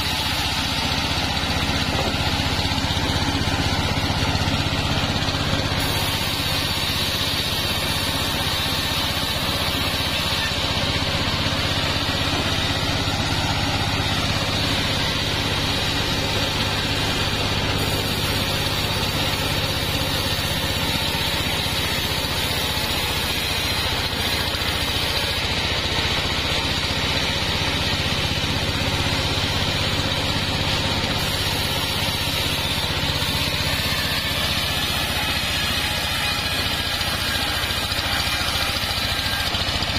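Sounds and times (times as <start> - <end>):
bandsaw mill sawing logs: 0.0 - 39.9.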